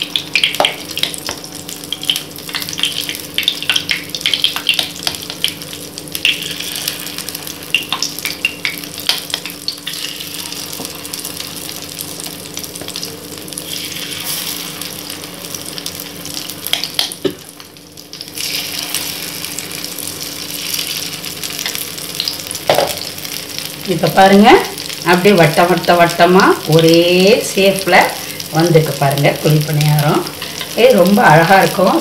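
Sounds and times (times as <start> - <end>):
batter sizzling in hot oil: 0.0 - 32.0.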